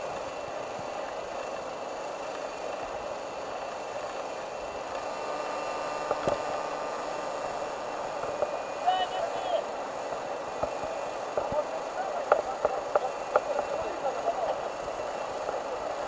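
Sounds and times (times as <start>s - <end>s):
river rushing over riffles: 0.0s - 16.0s.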